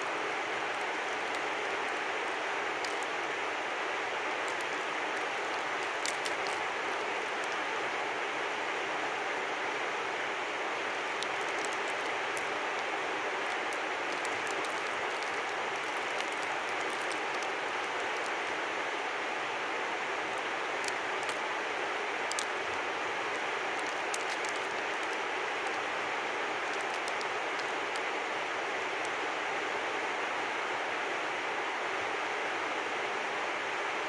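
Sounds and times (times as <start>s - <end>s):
river flowing: 0.0s - 34.0s.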